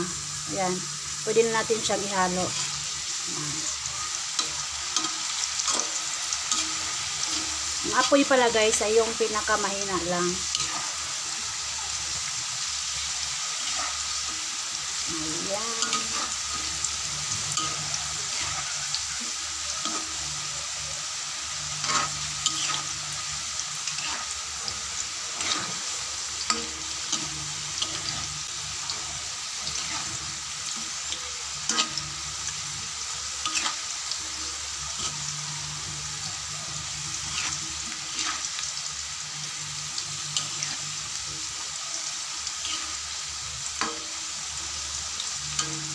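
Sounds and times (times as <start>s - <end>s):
food sizzling in hot oil: 0.0s - 45.9s
metal spatula scraping a wok: 1.4s - 41.8s, 42.5s - 44.2s.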